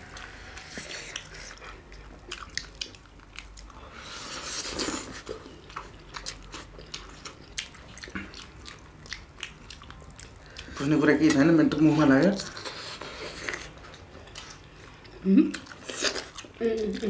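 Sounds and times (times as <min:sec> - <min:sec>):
chewing and mouth clicks: 0:00.0 - 0:17.0.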